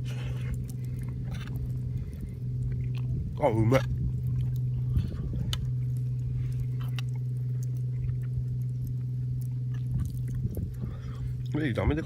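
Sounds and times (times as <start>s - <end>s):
person chewing: 0.0s - 11.6s
low hum: 0.0s - 12.0s.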